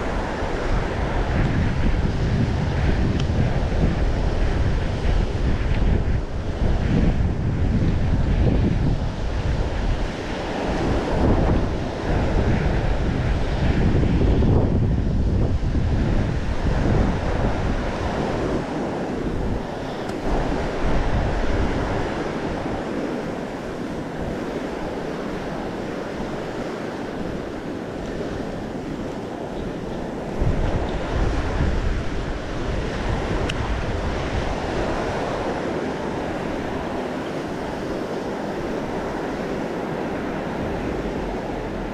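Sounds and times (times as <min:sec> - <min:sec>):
ocean surf washing in: 0:00.0 - 0:41.9
wind buffeting microphone: 0:00.0 - 0:41.9.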